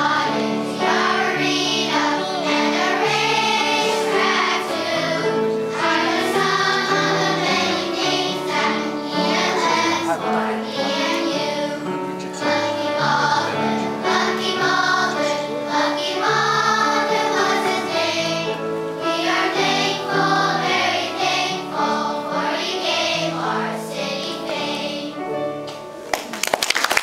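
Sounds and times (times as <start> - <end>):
children's choir singing: 0.0 - 25.7
piano bass notes: 0.0 - 26.4.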